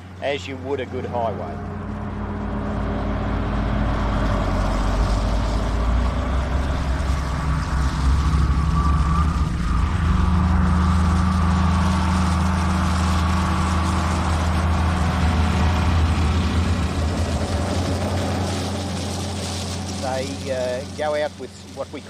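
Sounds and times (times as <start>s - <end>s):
heavy vehicle engine running: 0.0s - 22.0s.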